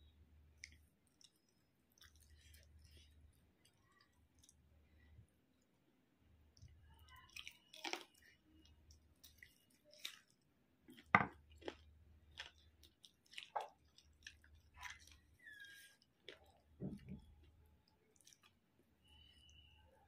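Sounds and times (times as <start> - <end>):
wet chewing and lip smacks: 0.6 - 4.6, 6.6 - 18.6.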